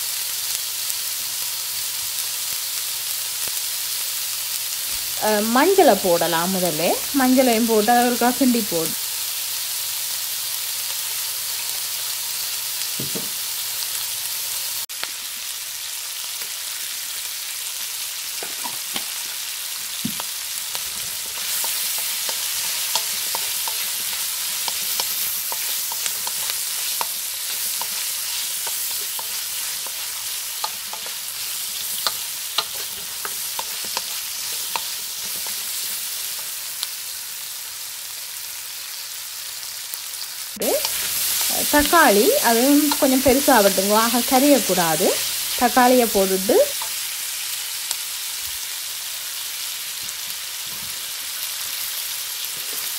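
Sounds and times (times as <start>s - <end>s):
vegetables sizzling in hot oil: 0.0s - 52.9s.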